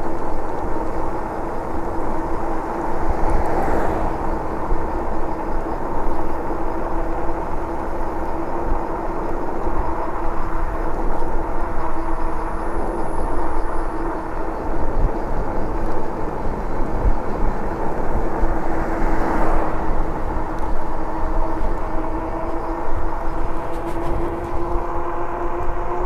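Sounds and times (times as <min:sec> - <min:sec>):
steady hum: 0:00.0 - 0:26.0
wind noise on microphone: 0:00.0 - 0:26.0.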